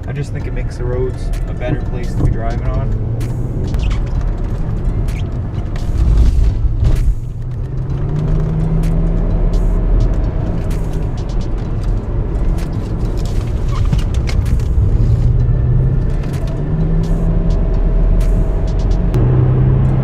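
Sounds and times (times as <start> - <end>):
car engine from inside cabin: 0.0 - 20.0
road noise: 0.0 - 20.0.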